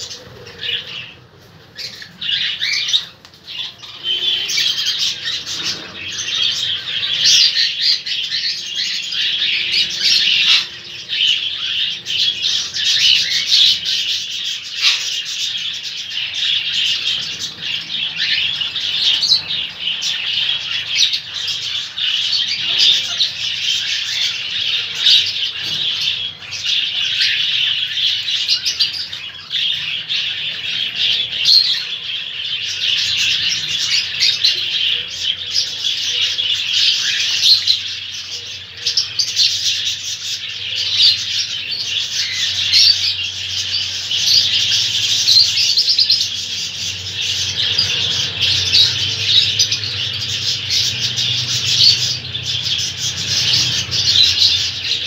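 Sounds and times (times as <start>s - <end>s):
parrots chirping and chattering: 0.0s - 55.0s.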